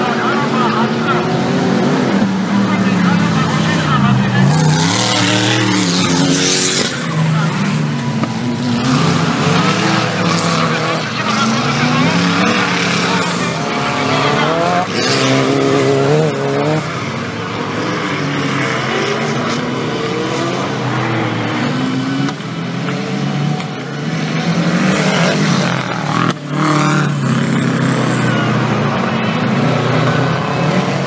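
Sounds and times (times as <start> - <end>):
off-road vehicle engines revving: 0.0 - 31.0.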